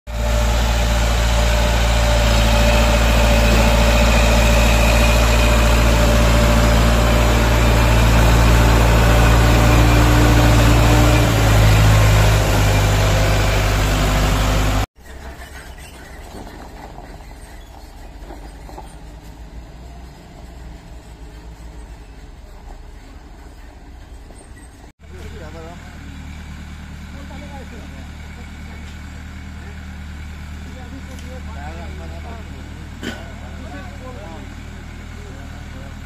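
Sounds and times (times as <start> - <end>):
diesel crane engine running: 0.1 - 36.0.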